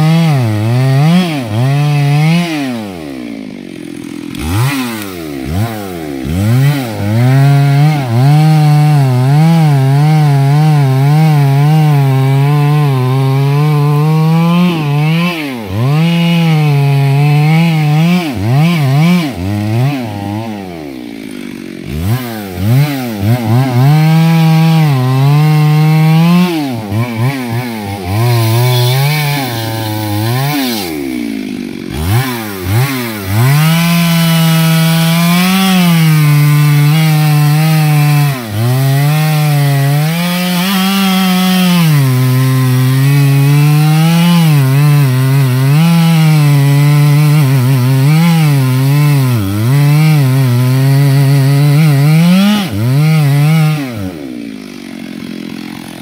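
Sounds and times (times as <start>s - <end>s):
chainsaw cutting tree: 0.0s - 56.0s.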